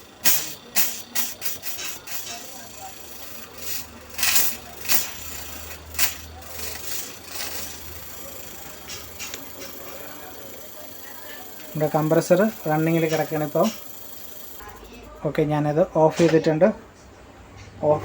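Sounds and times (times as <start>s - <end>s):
fridge compressor hum: 0.0s - 16.6s.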